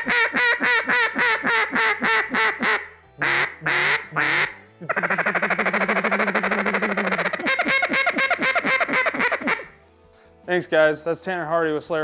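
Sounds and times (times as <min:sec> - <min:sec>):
duck call rolling chuckle: 0:00.0 - 0:09.7
duck call quacking: 0:00.0 - 0:09.8.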